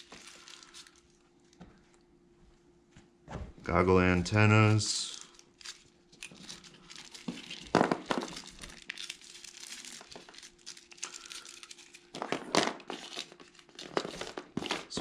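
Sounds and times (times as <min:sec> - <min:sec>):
packaging crinkling and rustling: 0:00.0 - 0:02.0, 0:04.4 - 0:15.0
faint steady hum: 0:00.0 - 0:15.0.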